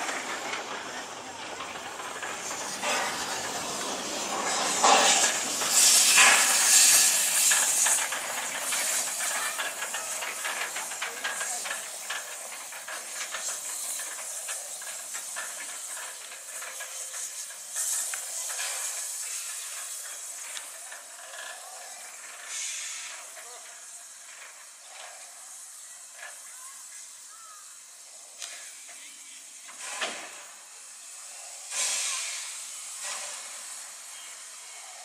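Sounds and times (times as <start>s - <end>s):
steam locomotive hissing: 0.0s - 35.0s.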